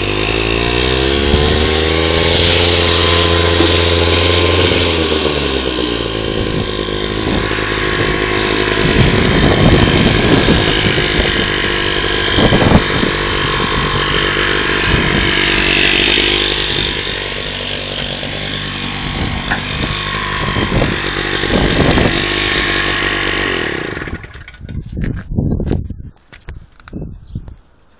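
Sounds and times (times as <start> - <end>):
two-stroke engine running: 0.0 - 24.8.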